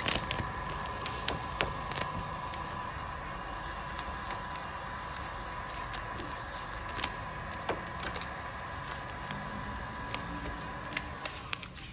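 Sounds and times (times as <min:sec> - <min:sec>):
heat gun fan whine: 0:00.0 - 0:11.9
vinyl wrap ticking and crackling: 0:00.0 - 0:11.9.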